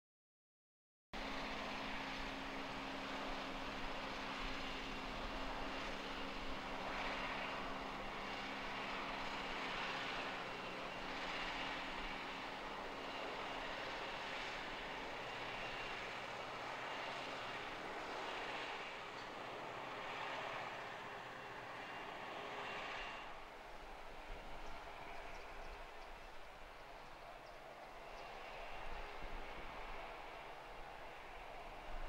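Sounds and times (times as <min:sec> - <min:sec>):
forage harvester rushing drone: 0:01.2 - 0:32.0
tractor engine low hum: 0:01.2 - 0:32.0.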